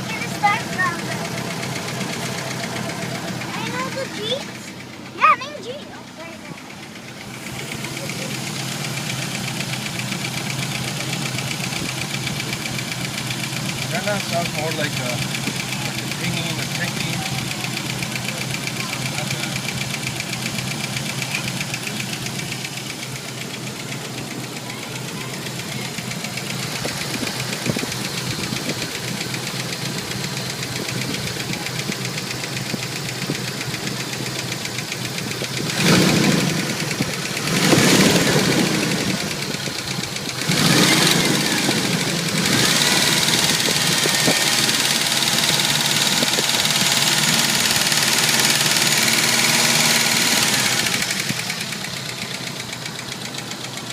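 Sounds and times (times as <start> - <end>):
car engine idling: 0.0 - 53.9
engine rushes: 0.0 - 53.9
rapid light engine ticking: 0.0 - 53.9.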